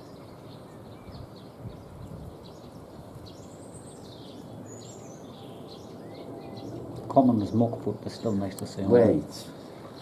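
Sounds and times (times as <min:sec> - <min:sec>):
low background noise: 0:00.0 - 0:10.0
songbirds chirping: 0:00.0 - 0:10.0.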